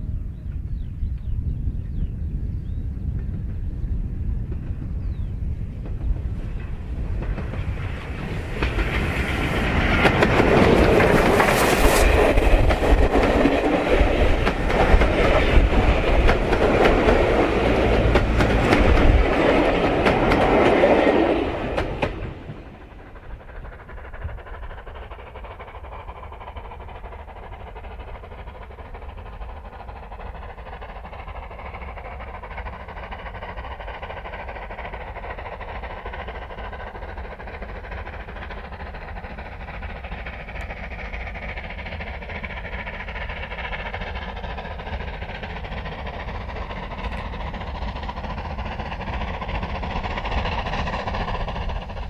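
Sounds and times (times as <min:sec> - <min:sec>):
train rumble: 0:00.0 - 0:52.0
train wheels clacking over rail joints: 0:05.8 - 0:52.0.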